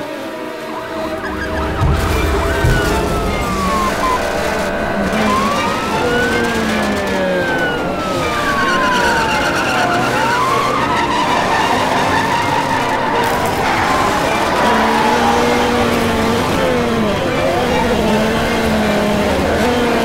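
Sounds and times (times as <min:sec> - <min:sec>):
steady rushing noise: 0:00.0 - 0:20.0
vehicle motor whining: 0:00.0 - 0:20.0.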